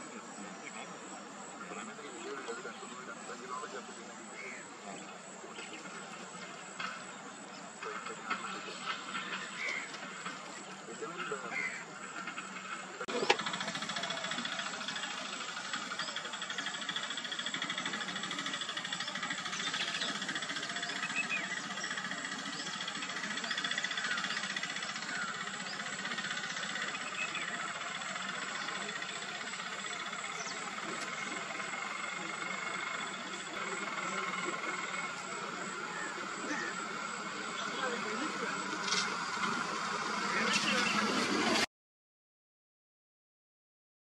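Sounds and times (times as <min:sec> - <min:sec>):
dense insect chorus: 0:00.0 - 0:41.6.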